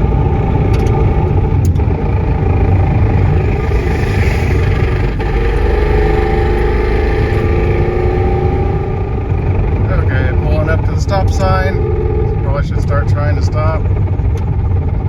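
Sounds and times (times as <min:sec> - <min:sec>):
drivetrain whine: 0:00.0 - 0:15.0
road and tyre rumble: 0:00.0 - 0:15.0.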